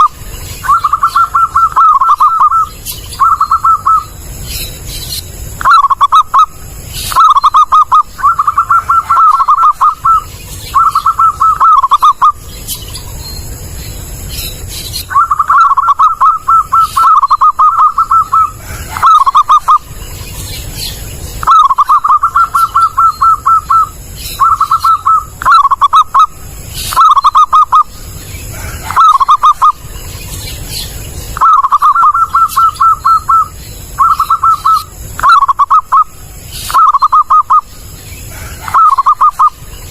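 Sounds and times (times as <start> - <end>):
zebra dove cooing: 0.0 - 4.1, 5.6 - 12.4, 15.0 - 19.9, 21.4 - 29.9, 31.4 - 39.9.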